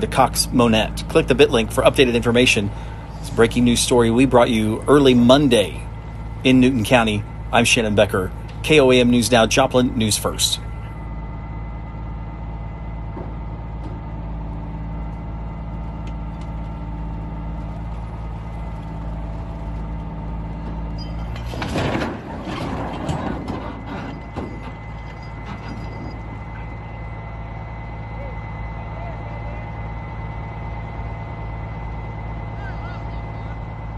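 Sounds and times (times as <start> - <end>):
heavy truck engine idling: 0.0 - 33.9.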